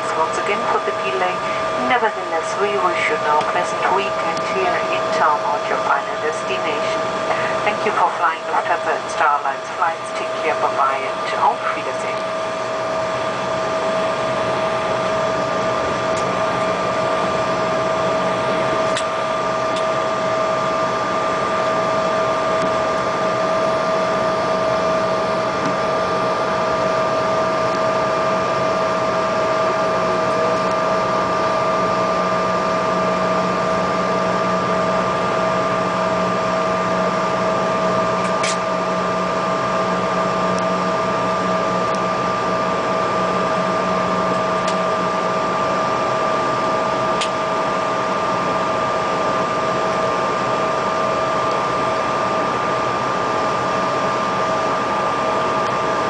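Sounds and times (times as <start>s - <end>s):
jet engines idling whine: 0.0s - 56.0s.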